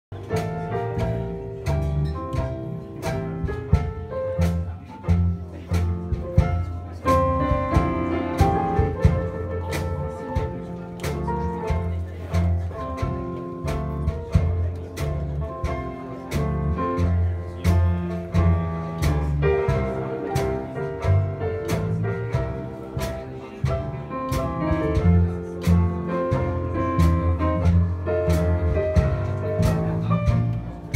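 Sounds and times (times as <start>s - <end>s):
banjo: 0.1s - 30.9s
drums: 0.1s - 30.9s
plucked string bass: 0.1s - 30.9s.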